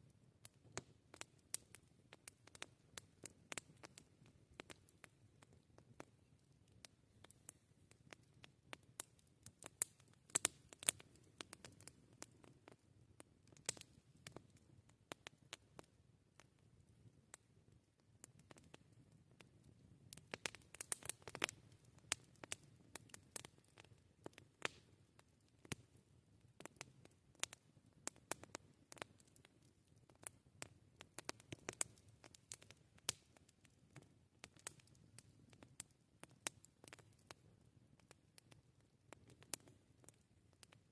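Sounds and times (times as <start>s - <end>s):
campfire crackling and popping: 0.1s - 40.9s.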